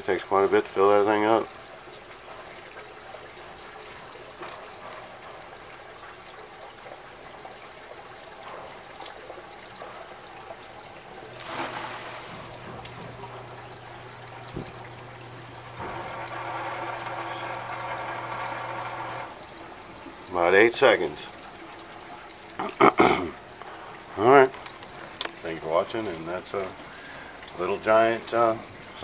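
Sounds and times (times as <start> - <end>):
pump motor hum: 0.0 - 29.0
pump rushing water: 0.0 - 29.0
water trickling: 0.0 - 29.0.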